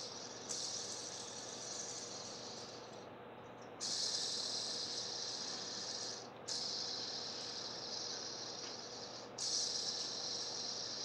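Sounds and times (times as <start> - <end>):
fidget spinner whirring: 0.0 - 3.0, 3.8 - 11.0.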